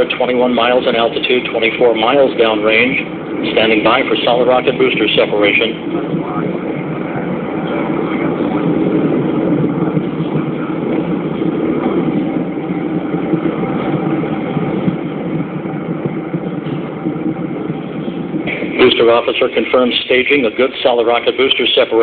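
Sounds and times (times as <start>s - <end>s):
rocket engines roaring: 0.0s - 22.0s.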